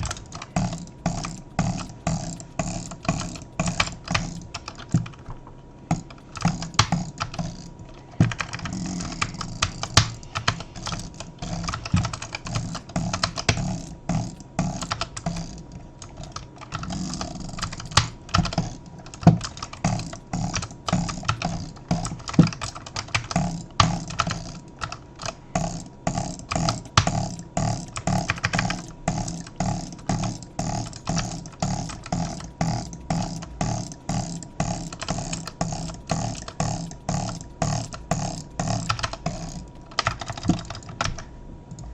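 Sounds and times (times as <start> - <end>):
clutch mechanism clicking: 0.0 - 41.9
steady low hum: 0.0 - 41.9.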